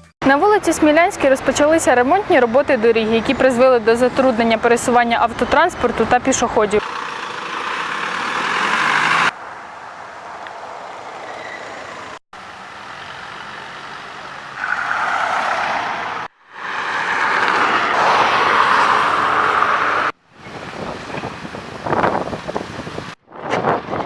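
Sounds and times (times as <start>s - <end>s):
motor vehicles and trucks passing: 0.4s - 24.0s.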